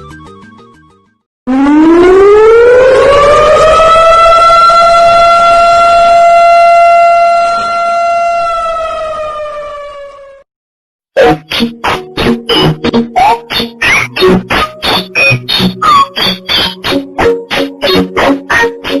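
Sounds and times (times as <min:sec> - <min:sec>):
siren wail: 0:01.5 - 0:10.5, 0:12.6 - 0:19.0.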